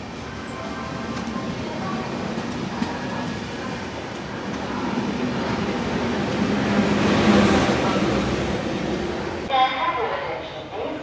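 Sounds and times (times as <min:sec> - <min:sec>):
train wheels rumbling on rail: 0:00.0 - 0:09.5.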